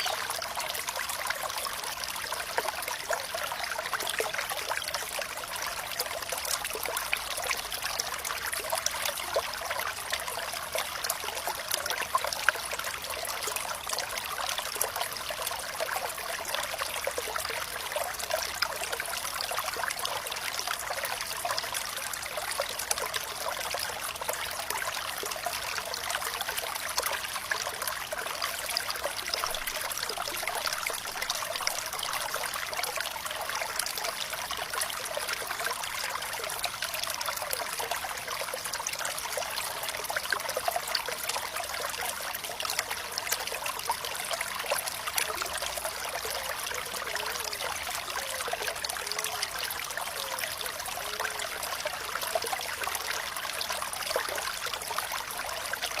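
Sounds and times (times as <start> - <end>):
water bubbling gurgles: 0.0 - 56.0
water trickling and splashing: 0.0 - 56.0.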